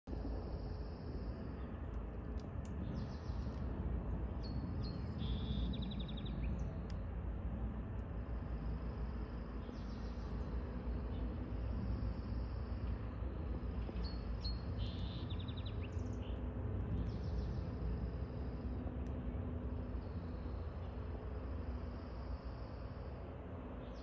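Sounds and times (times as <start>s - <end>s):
low background rumble: 0.1s - 24.0s
small birds chirping and trilling: 0.2s - 7.2s, 8.8s - 23.1s, 23.8s - 24.0s.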